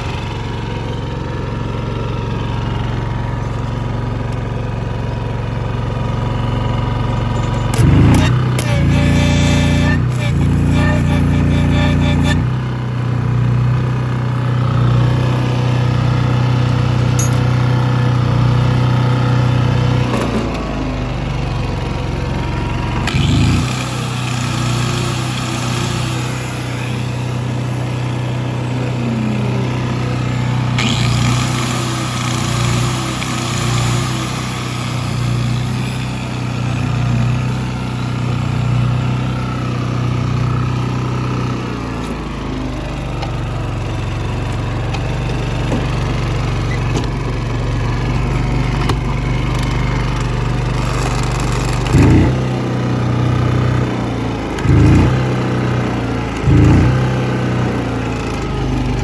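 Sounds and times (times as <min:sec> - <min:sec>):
welder generator engine running: 0:00.0 - 0:59.0.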